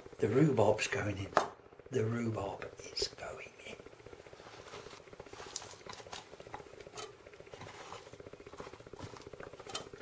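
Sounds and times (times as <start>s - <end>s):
low steady buzz: 0.0s - 10.0s.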